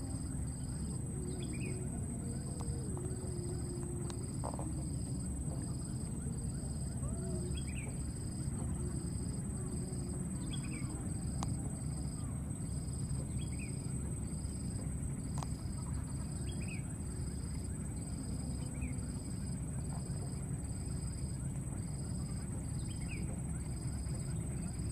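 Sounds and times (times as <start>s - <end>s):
high insect whine: 0.0s - 24.9s.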